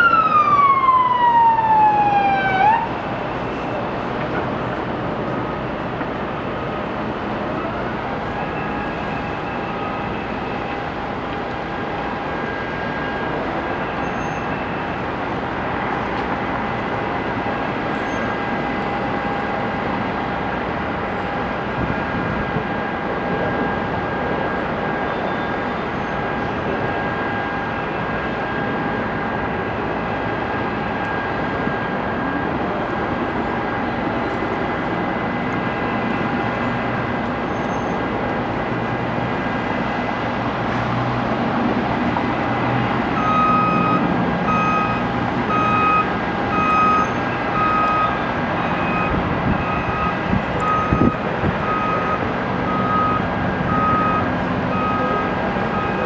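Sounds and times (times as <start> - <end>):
reversing alarm beeping: 0.0 - 41.0, 41.6 - 56.0
heavy engine with high whine: 0.0 - 56.0.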